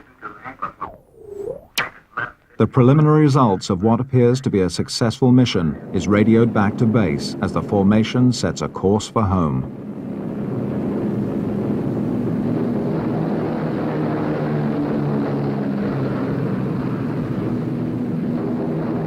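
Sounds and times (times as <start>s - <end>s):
propeller aircraft engines droning: 0.3s - 1.9s, 3.0s - 19.0s.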